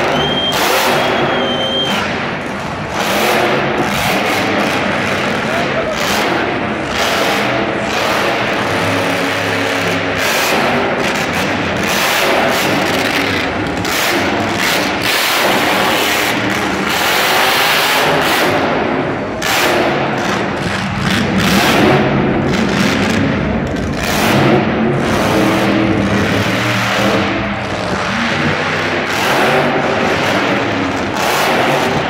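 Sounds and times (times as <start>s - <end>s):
monster truck engine running loud: 0.0s - 32.0s.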